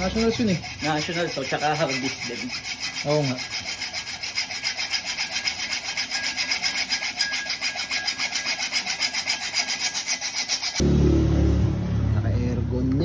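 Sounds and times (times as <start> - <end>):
hacksaw cutting metal: 0.0 - 10.8.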